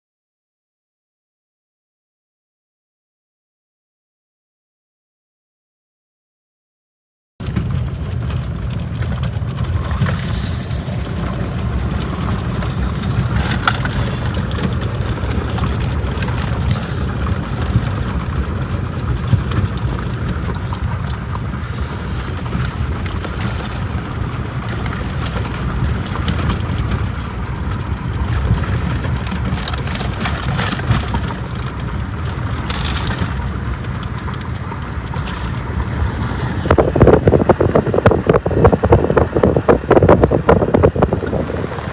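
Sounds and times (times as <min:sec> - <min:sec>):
strong wind buffeting microphone: 0:07.4 - 0:41.9.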